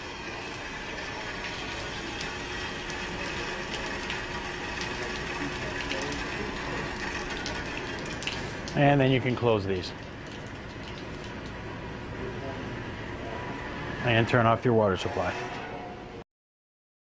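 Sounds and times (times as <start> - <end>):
air and water hissing from vents: 0.0 - 15.7.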